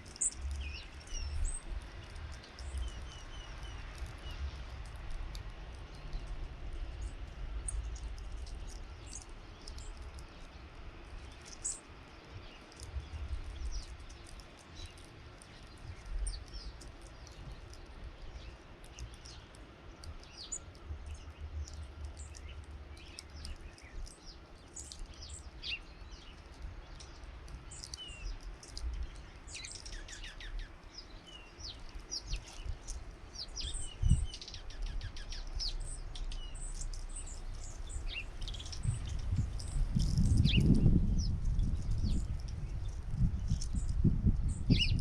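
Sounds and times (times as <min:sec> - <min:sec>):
songbirds chirping: 0:00.0 - 0:45.0
steady low rumble: 0:00.0 - 0:45.0.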